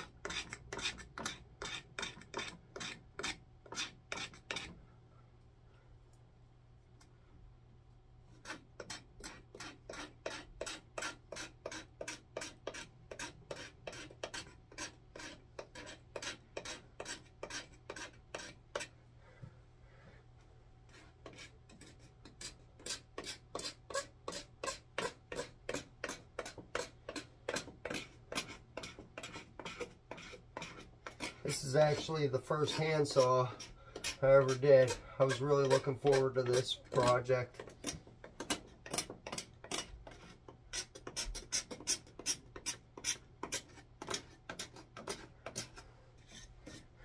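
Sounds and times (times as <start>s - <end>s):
knife scraping wood: 0.0s - 4.8s, 8.3s - 19.0s, 20.8s - 47.0s.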